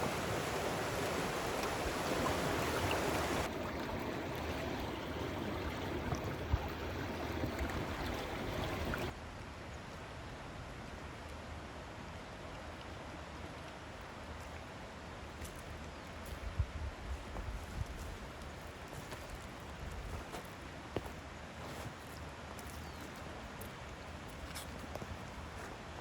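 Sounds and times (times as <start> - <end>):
river water flowing over shallows: 0.0 - 26.0.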